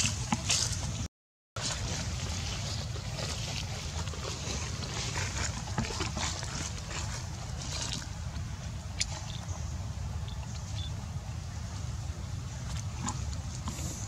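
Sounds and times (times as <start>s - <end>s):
rustles in grass and leaves: 0.0s - 14.0s.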